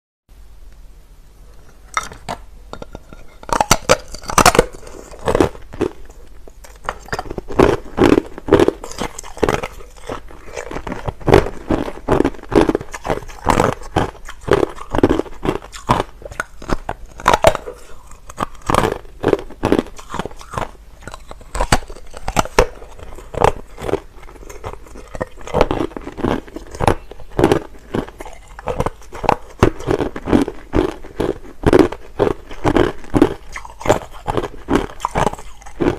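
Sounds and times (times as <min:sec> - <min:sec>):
crunching ice being chewed: 0:01.6 - 0:35.9.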